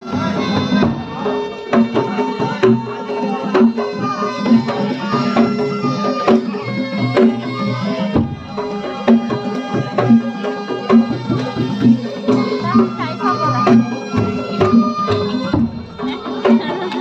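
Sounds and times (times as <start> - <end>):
drums in driving rhythm: 0.0 - 17.0.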